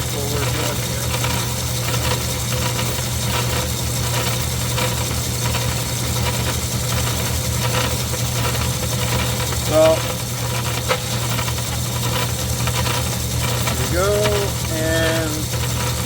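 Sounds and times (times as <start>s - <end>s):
metal lathe motor hum: 0.0s - 16.0s
pulsing scraping: 0.0s - 16.0s.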